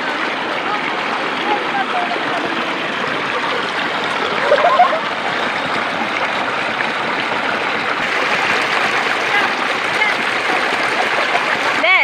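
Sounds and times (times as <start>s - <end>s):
stream water rushing and splashing: 0.0s - 12.0s.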